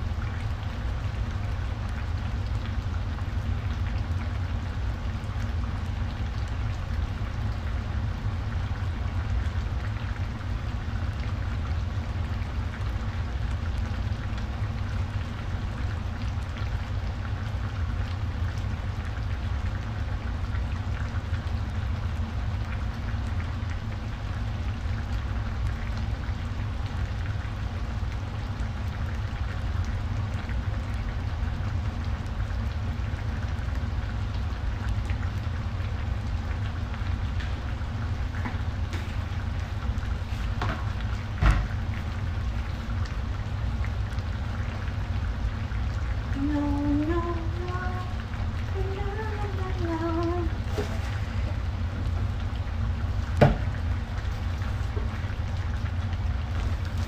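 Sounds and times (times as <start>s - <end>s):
low hum: 0.0s - 57.0s
stew bubbling and popping: 0.0s - 57.0s.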